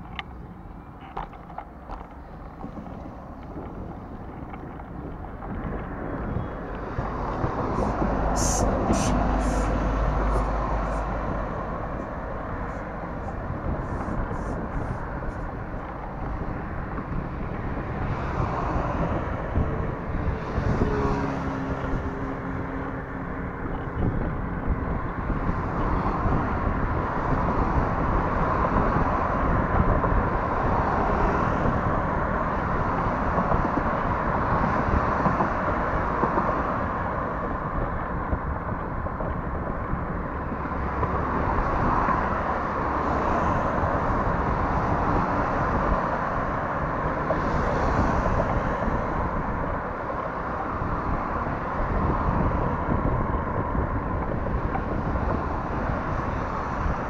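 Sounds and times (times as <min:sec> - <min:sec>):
road traffic passing: 0:00.0 - 0:57.0
vehicle engine drone: 0:00.0 - 0:57.0.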